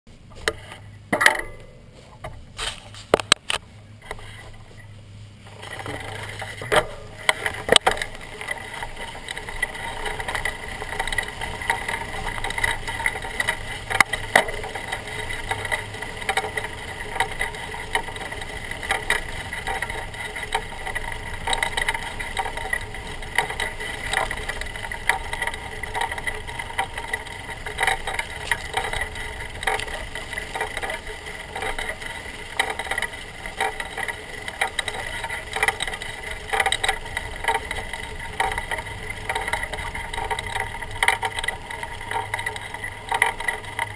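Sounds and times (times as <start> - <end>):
bike tyre rattling rush on grass: 1.8 - 43.9.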